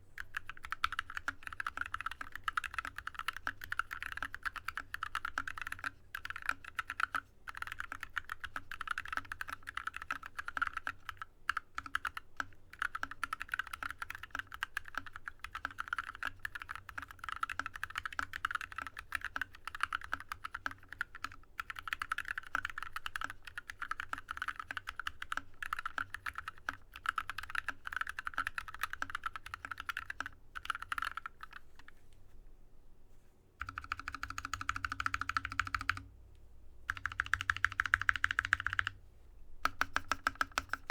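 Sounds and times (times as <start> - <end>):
mechanical keyboard typing: 0.2 - 31.6, 33.6 - 36.1, 36.9 - 39.0, 39.6 - 40.9.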